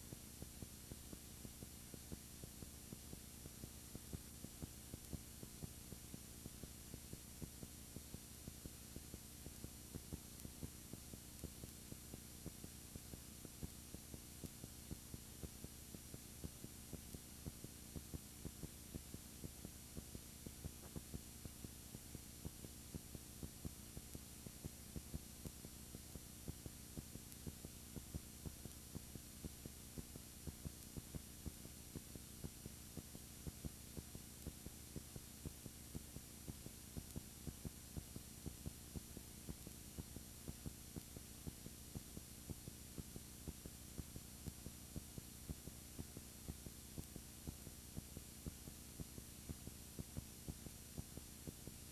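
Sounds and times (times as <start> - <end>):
electrical hum and hiss: 0.0 - 51.9
faint clicks: 6.4 - 51.8.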